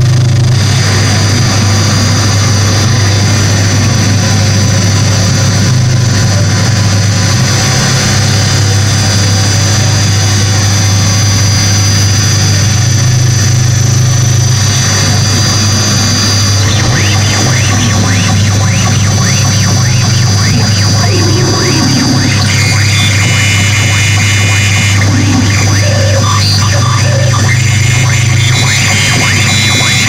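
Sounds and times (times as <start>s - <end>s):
low electronic drone: 0.0s - 30.0s
wall of electronic noise: 0.0s - 30.0s.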